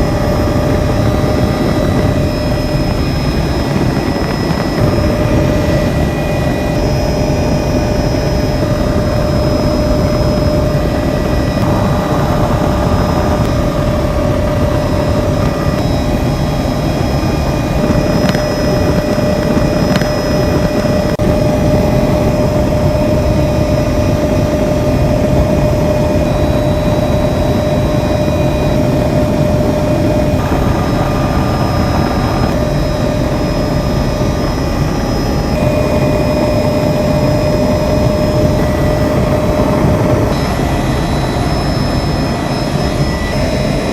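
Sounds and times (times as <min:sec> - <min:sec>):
constant high tone: 0:00.0 - 0:43.9
helicopter engine and rotor: 0:00.0 - 0:43.9.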